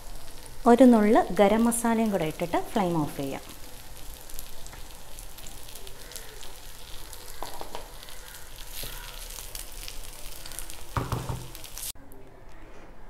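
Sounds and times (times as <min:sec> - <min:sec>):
beef sizzling in a pan: 0:00.0 - 0:12.0.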